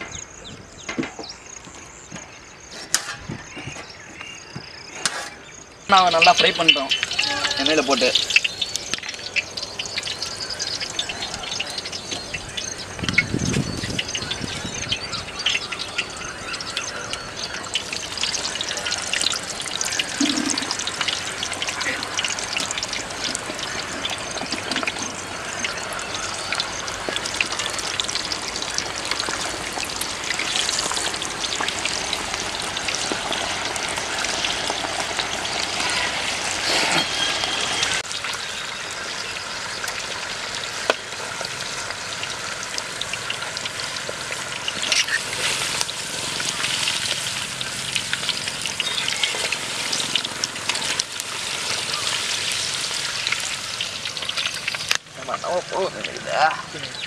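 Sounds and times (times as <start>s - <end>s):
bananas deep-frying in oil: 4.4s - 57.0s.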